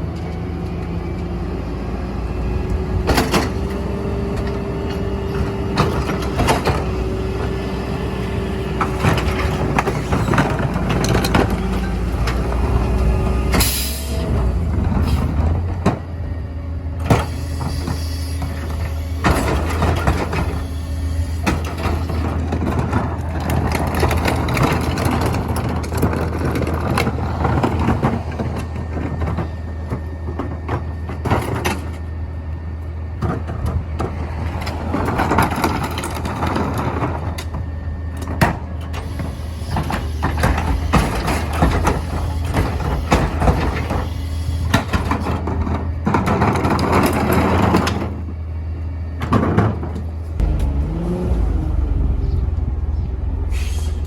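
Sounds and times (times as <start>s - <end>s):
garbage truck engine humming: 0.0s - 54.0s
knocks and clatter of load: 2.7s - 16.2s, 17.0s - 20.7s, 21.3s - 32.2s, 33.1s - 48.4s, 49.1s - 53.2s.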